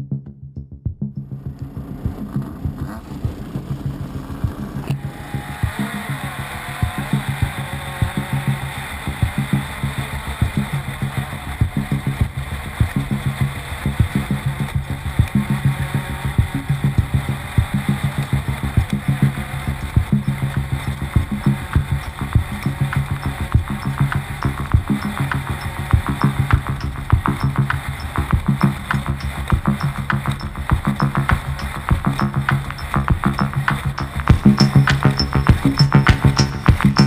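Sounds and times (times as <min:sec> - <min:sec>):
race car engine running: 0:01.3 - 0:37.0.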